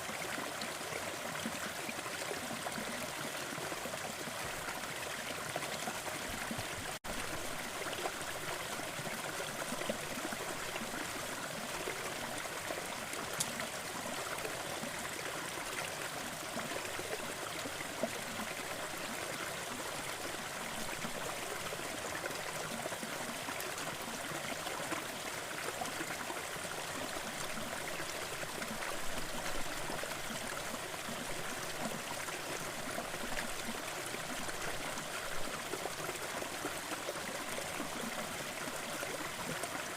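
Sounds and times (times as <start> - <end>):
waterfall rushing and trickling: 0.0 - 39.9.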